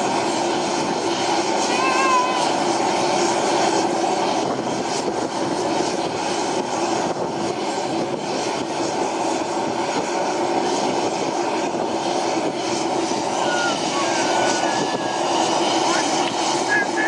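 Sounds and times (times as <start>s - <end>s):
helicopter turbine and rotor noise: 0.0s - 17.0s.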